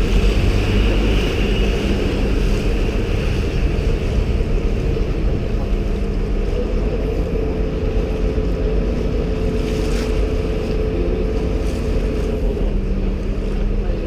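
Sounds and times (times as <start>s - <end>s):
boat engine humming: 0.0s - 14.0s
water rushing along hull: 0.0s - 14.0s
wind on microphone: 0.0s - 14.0s.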